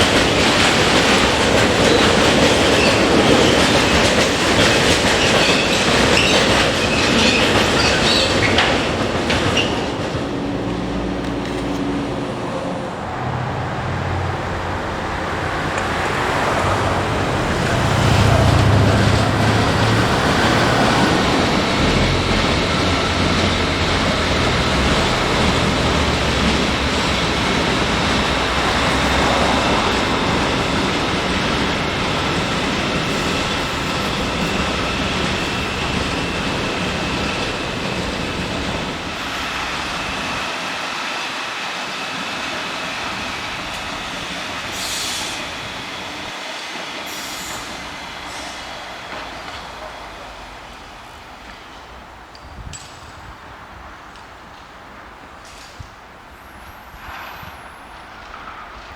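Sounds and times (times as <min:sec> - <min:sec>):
train rolling past: 0:00.0 - 0:58.9.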